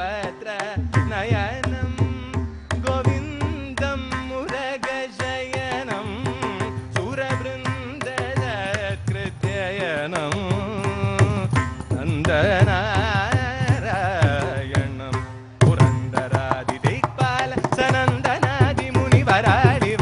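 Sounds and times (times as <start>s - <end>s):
hand drum rapid strokes: 0.0s - 20.0s
man singing: 0.0s - 20.0s.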